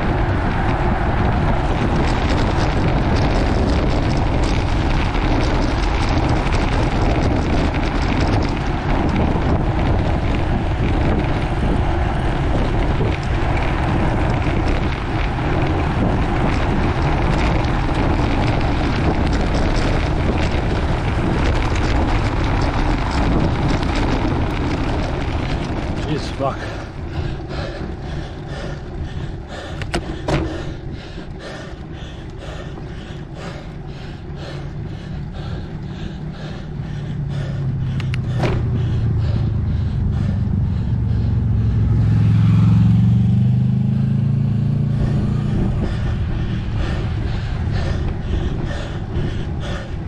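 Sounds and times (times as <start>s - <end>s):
tyre noise on road: 0.0s - 50.0s
wind buffeting microphone: 0.0s - 50.0s.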